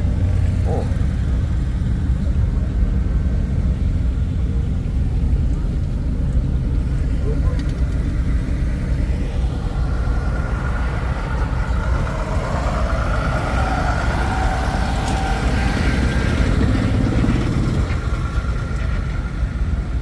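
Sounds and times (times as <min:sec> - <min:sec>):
background engines rumbling: 0:00.0 - 0:20.0
car engine rumbling: 0:00.0 - 0:20.0.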